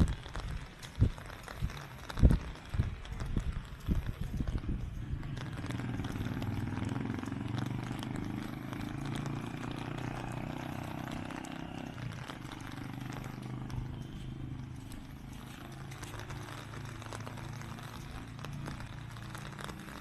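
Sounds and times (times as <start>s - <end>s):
street noise: 0.0s - 20.0s
vehicle engine running: 1.0s - 20.0s.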